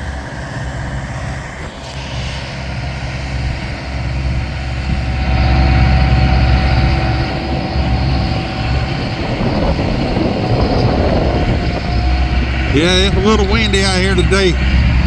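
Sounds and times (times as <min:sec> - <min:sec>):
diesel skid steer engine: 0:00.0 - 0:15.0
thin steady whine: 0:00.0 - 0:15.0.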